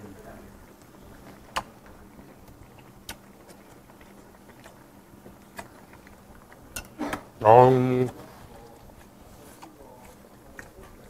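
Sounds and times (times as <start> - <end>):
faint steady low hum: 0.0 - 11.0
man chewing food: 0.3 - 11.0.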